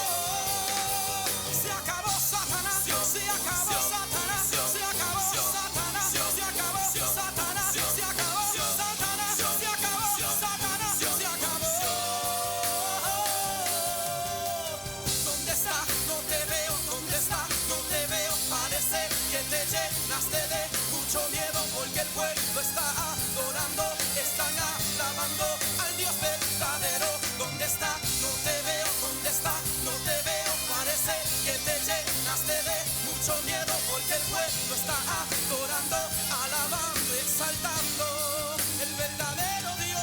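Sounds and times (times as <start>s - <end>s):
bass: 0.0s - 40.0s
drum kit: 0.0s - 40.0s
upbeat praise band music: 0.0s - 40.0s.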